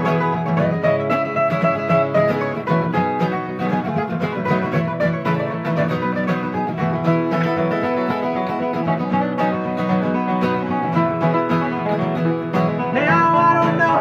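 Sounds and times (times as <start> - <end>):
picked acoustic guitar solo: 0.0 - 14.0
strummed acoustic guitar rhythm: 0.0 - 14.0.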